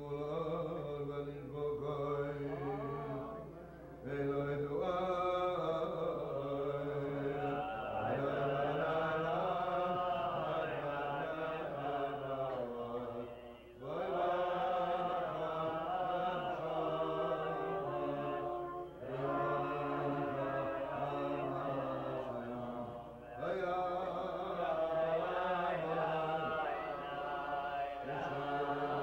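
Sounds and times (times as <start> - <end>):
man singing chant-like melody: 0.0 - 29.0.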